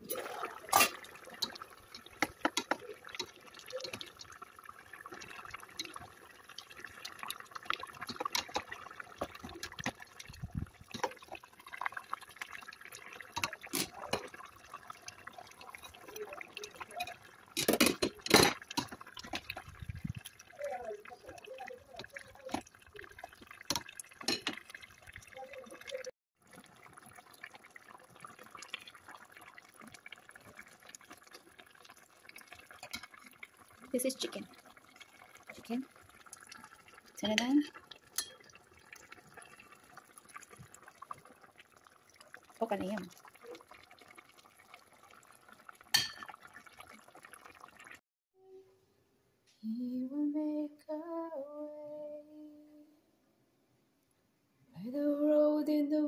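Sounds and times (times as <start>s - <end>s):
stew bubbling in a pot: 0.0s - 48.0s.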